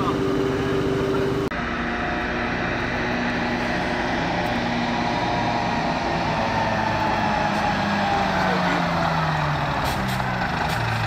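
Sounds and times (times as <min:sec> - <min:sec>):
fire truck diesel engine running: 0:00.0 - 0:11.0.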